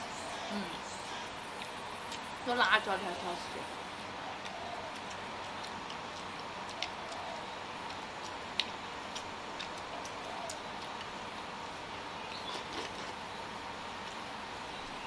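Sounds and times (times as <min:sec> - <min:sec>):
low background hiss: 0:00.0 - 0:12.5.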